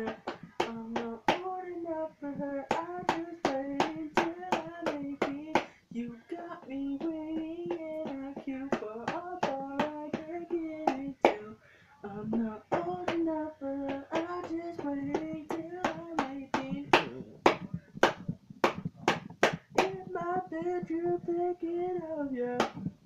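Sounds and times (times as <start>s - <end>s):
hands slapping drum beat: 0.0s - 11.5s, 12.1s - 23.0s.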